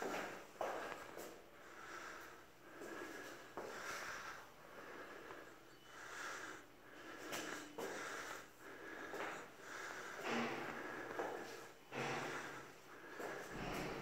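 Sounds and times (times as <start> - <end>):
person breathing: 0.0 - 14.0.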